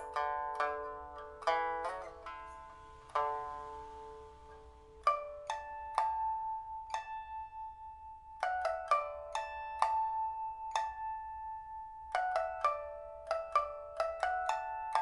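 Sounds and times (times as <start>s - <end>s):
pipa notes plucked: 0.0s - 15.0s.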